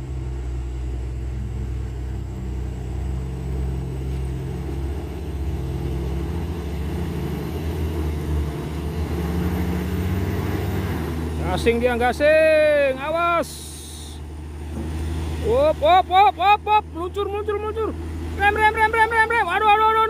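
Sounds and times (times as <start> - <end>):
truck diesel engines rumbling: 0.0 - 20.0.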